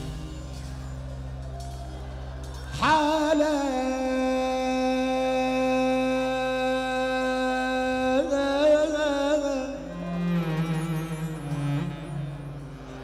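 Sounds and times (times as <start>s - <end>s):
wedding music over loudspeakers: 0.0s - 13.0s.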